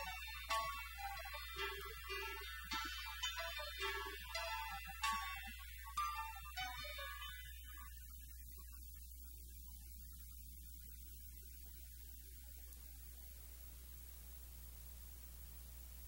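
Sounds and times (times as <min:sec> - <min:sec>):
faint hiss: 0:00.0 - 0:16.0
low mains hum: 0:00.0 - 0:16.0.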